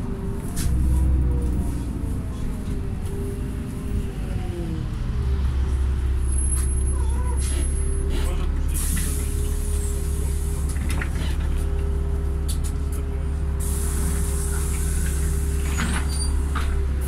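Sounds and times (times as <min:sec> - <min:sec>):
bus engine and road drone: 0:00.0 - 0:17.0.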